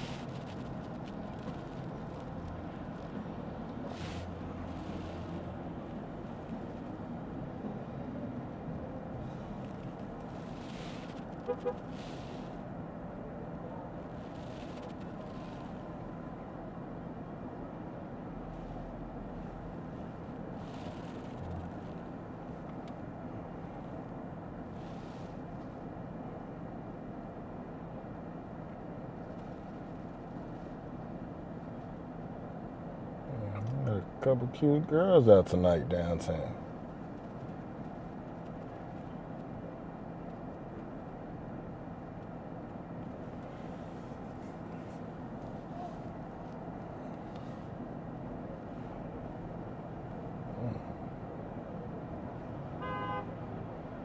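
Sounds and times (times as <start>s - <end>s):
car cabin road noise: 0.0s - 54.0s
low engine hum: 0.0s - 54.0s.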